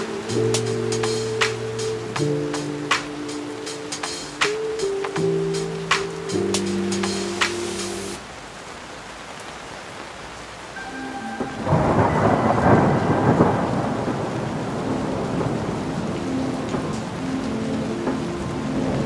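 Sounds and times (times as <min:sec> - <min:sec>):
thunder rumbling: 0:00.0 - 0:08.2, 0:11.2 - 0:19.0
steady rain: 0:00.0 - 0:19.0.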